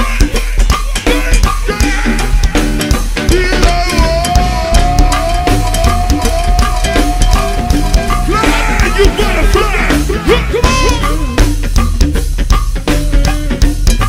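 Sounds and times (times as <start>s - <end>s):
drum kit groove: 0.0s - 14.0s.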